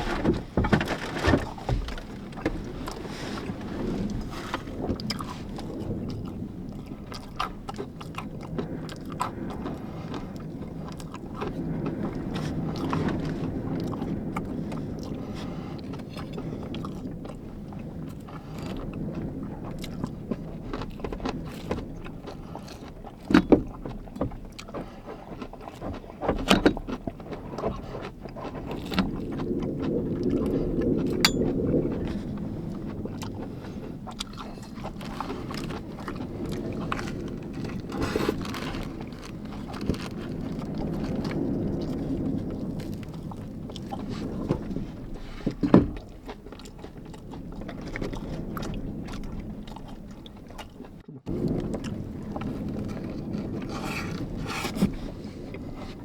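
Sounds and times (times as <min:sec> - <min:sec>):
small clicks and scrapes: 0:00.0 - 0:06.5, 0:07.4 - 0:43.2, 0:50.2 - 0:56.0
strong wind against van: 0:00.0 - 0:56.0.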